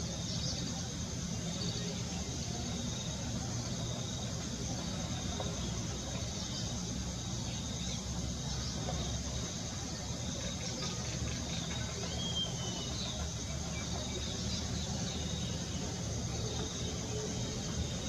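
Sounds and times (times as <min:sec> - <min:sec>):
insects chirping chorus: 0:00.0 - 0:18.0.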